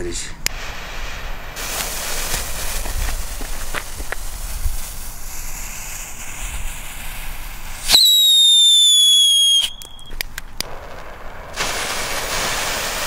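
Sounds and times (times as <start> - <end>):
firework fuse fizzing: 0.0 - 13.0
firework launching with piercing whistle: 0.5 - 13.0.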